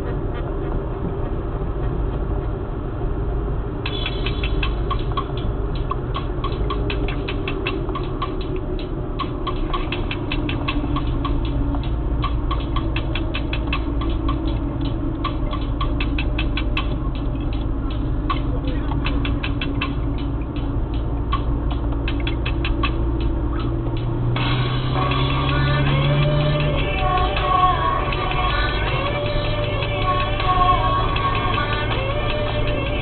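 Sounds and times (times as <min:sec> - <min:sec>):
car engine rumble: 0:00.0 - 0:33.0
road noise: 0:00.0 - 0:33.0
rapid light clicking: 0:03.8 - 0:24.1, 0:24.7 - 0:33.0.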